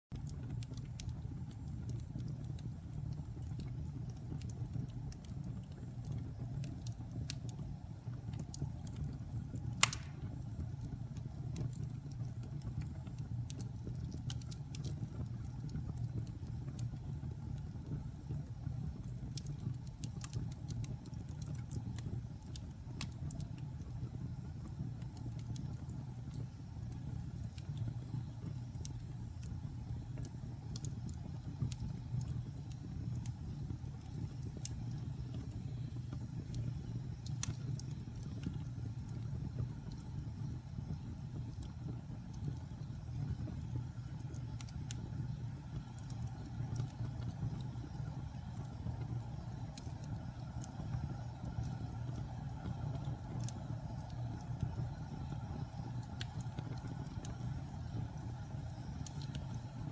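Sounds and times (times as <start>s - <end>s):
campfire crackling: 0.1s - 59.9s.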